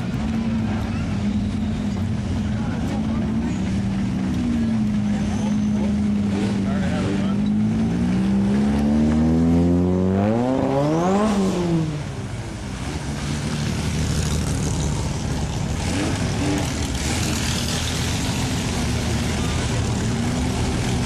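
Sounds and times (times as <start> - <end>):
race car engines: 0.0 - 21.0.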